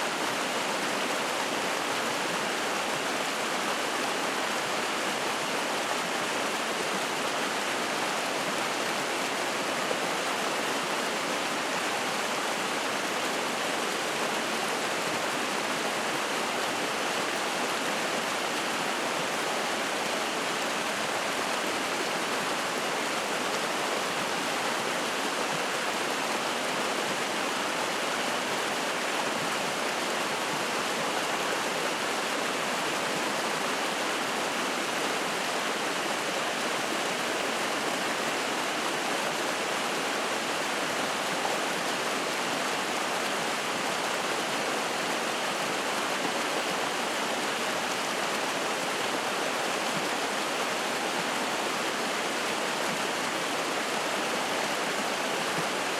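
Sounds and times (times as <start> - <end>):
mountain stream flowing: 0.0 - 55.9.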